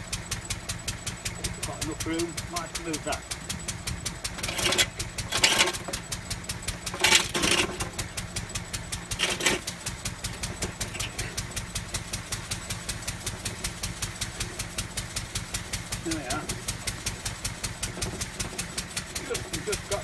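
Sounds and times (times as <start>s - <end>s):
stationary engine running: 0.0s - 20.0s.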